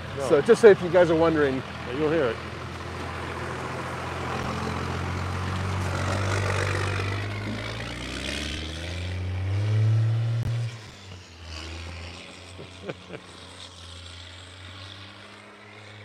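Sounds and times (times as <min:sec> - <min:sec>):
diesel truck engine revving: 0:00.0 - 0:16.0.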